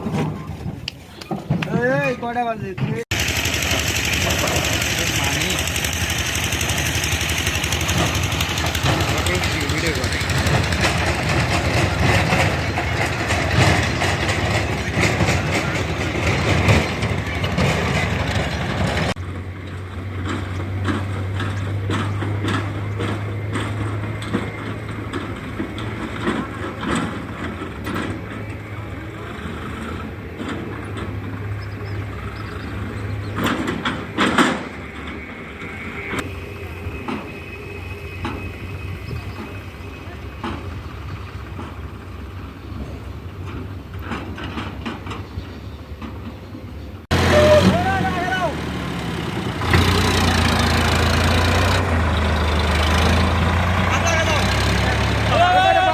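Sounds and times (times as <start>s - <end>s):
engine knocks and clatter: 0.0s - 55.9s
tractor engine running: 0.0s - 55.9s.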